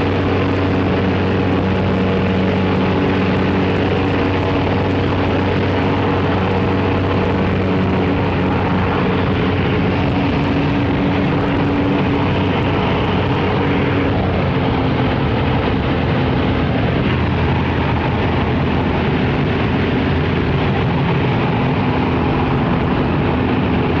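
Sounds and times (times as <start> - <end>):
propeller plane engine drone: 0.0 - 24.0.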